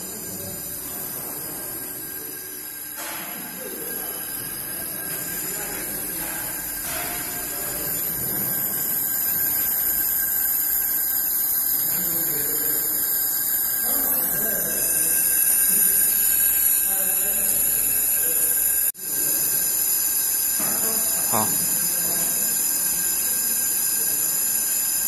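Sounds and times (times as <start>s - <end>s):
laser welder hiss and whine: 0.0s - 25.0s.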